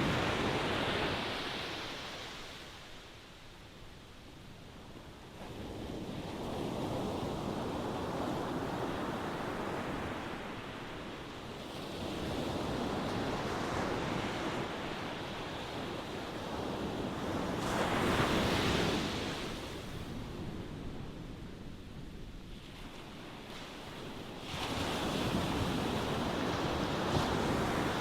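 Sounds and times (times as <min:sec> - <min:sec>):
ocean waves washing ashore: 0:00.0 - 0:28.0.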